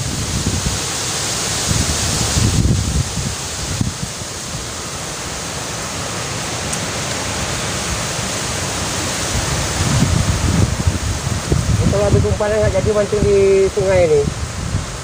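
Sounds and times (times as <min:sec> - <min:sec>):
storm wind blowing: 0:00.0 - 0:15.0.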